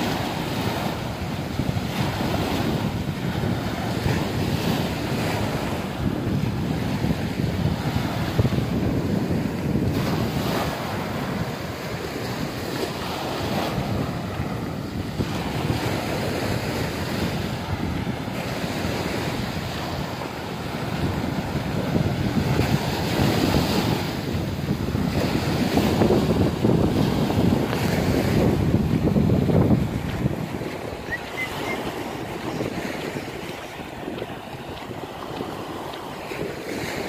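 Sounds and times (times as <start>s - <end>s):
waves breaking on beach: 0.0s - 37.0s
wind rumbling on microphone: 0.0s - 37.0s.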